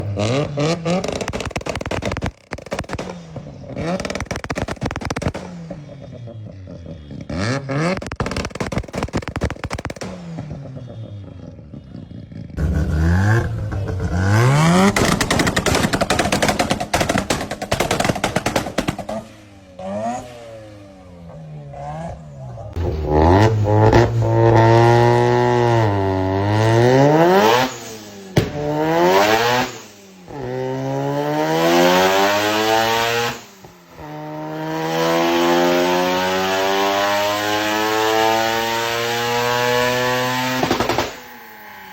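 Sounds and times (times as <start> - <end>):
exhaust popping and crackling: 0.0 - 20.4, 22.4 - 41.8
engine exhaust revving: 0.0 - 41.9.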